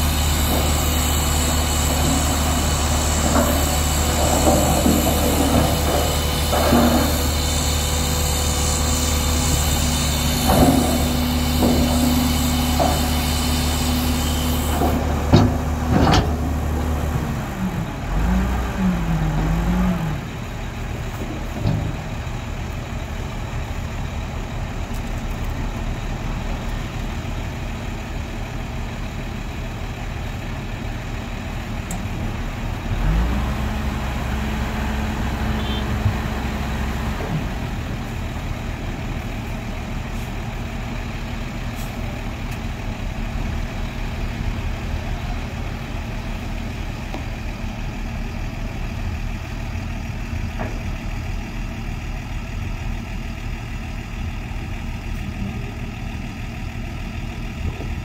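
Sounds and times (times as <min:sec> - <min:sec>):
heavy machinery diesel engines: 0:00.0 - 0:58.0.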